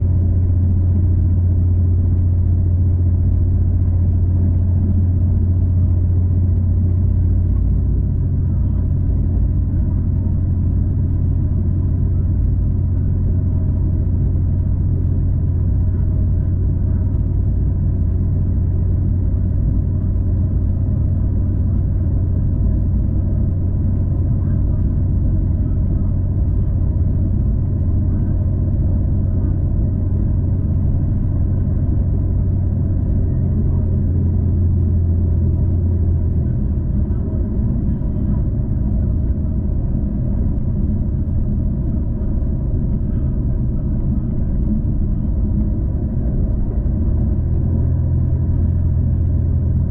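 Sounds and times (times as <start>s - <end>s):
train rumbling from inside carriage: 0.0s - 49.9s.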